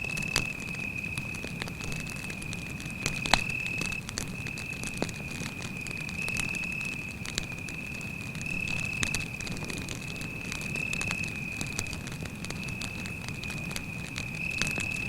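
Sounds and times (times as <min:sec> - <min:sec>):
campfire crackling: 0:00.0 - 0:15.0
cricket trilling: 0:00.0 - 0:15.0.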